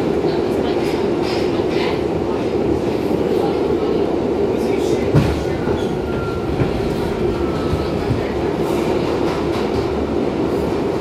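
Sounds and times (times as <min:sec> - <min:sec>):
subway car rumble: 0:00.0 - 0:11.0.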